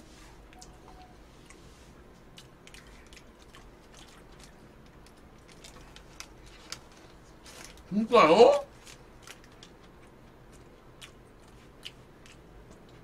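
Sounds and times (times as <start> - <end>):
man chewing: 0.4 - 7.9, 8.7 - 13.0.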